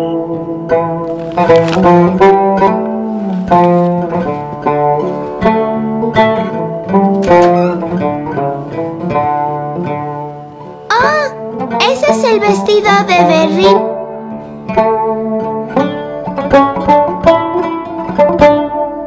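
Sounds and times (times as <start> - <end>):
song with plucked strings: 0.0 - 19.0.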